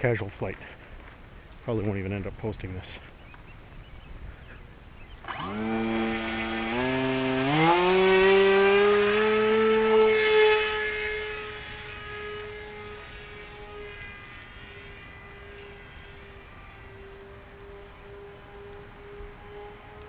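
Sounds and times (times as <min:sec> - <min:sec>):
electric motor and propeller whining: 0:00.6 - 0:20.0.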